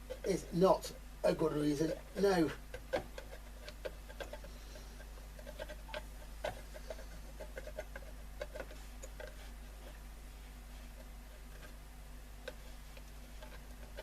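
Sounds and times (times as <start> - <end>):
low mains hum: 0.0 - 14.0.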